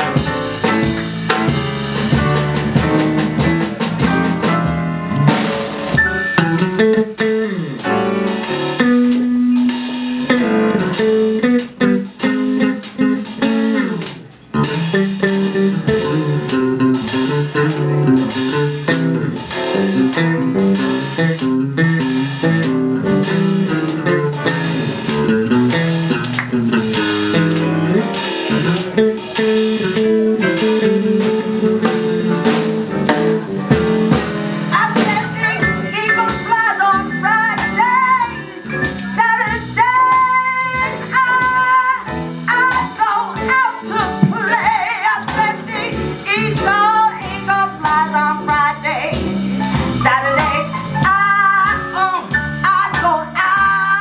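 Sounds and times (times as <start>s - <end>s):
live band playing: 0.0s - 54.0s.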